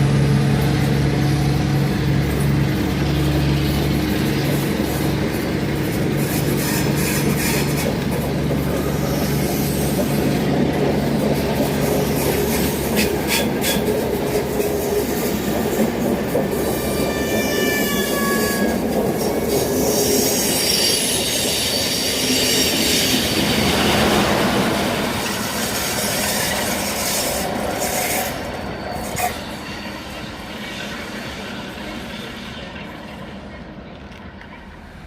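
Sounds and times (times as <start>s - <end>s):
train rumble: 0.0s - 35.0s
train wheels squealing on rails: 0.0s - 35.0s.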